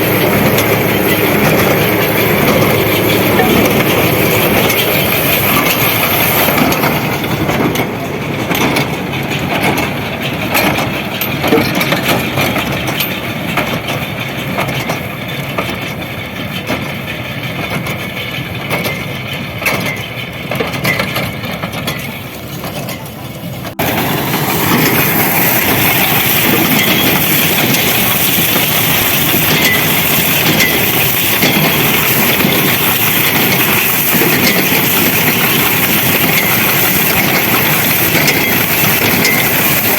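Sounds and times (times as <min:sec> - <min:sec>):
farm machinery knocking and clattering: 0:00.0 - 0:39.9
tractor engine running: 0:00.0 - 0:39.9.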